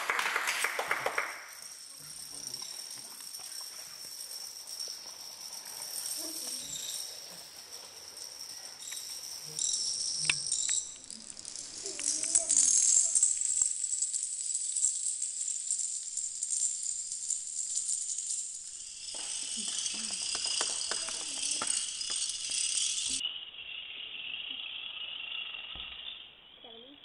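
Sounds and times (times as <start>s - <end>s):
plastic dominoes toppling: 0.3s - 23.2s.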